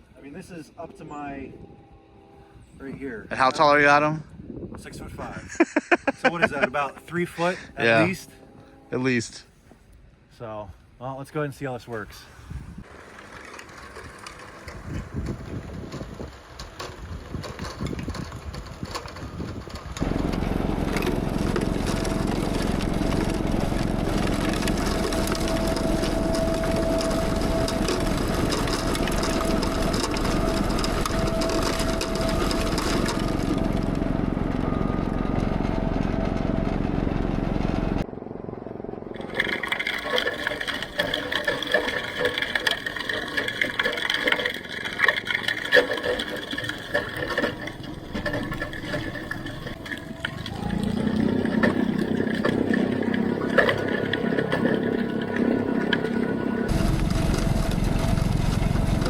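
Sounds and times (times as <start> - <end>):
tractor snowblower running: 5.6 - 8.2, 12.8 - 59.0.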